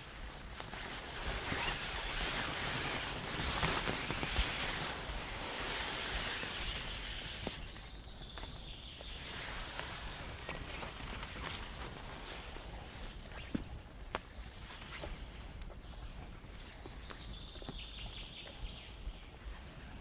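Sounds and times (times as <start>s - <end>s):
wind rumble on microphone: 0.0s - 20.0s
wind rushing through trees: 0.0s - 20.0s.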